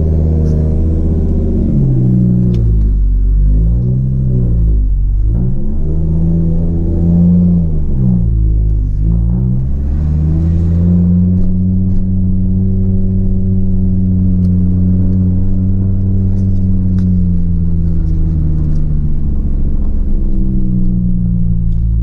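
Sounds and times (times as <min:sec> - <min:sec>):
turbo car engine from inside cabin: 0:00.0 - 0:22.0.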